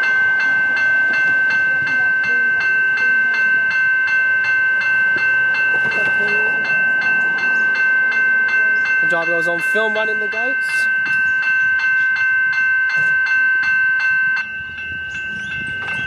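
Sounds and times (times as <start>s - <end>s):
level crossing bell ringing: 0.0s - 16.0s.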